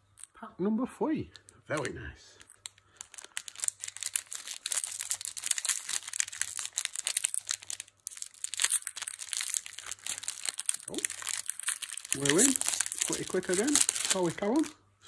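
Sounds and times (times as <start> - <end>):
foil wrapper crinkling and tearing: 1.4 - 14.8.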